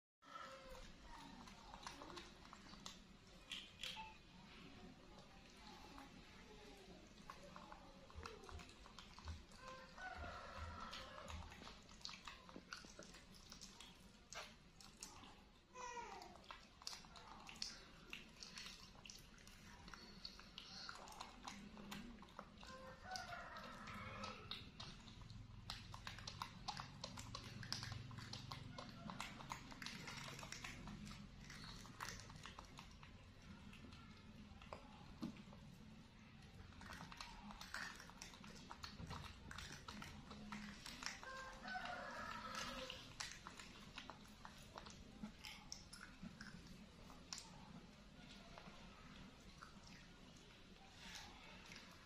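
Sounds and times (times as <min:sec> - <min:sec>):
chewing and mouth smacks: 0:00.4 - 0:52.0.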